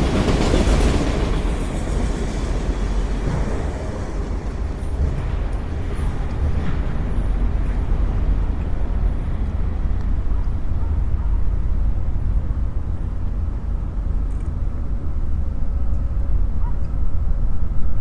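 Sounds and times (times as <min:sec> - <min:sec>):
freight train wheels rumbling on rail: 0:00.0 - 0:18.0.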